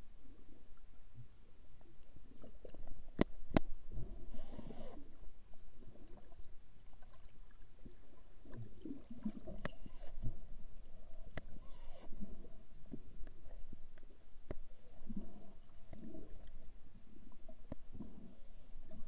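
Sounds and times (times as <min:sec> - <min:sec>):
underwater water movement rumble: 0:00.0 - 0:19.0.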